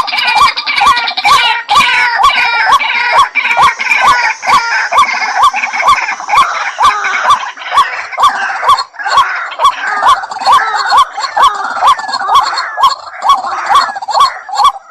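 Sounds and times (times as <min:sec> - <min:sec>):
higher chattering bird notes: 0:00.0 - 0:14.9
waterhen calling: 0:00.0 - 0:14.9.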